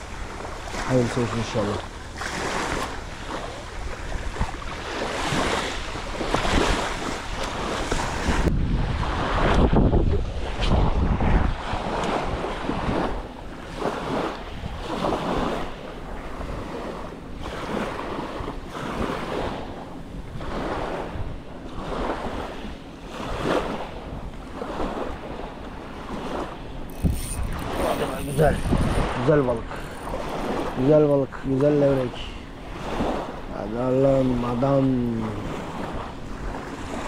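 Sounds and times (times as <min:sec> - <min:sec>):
waves lapping on pebble beach: 0:00.0 - 0:10.8, 0:11.6 - 0:37.0
wind buffeting microphone: 0:00.0 - 0:37.0.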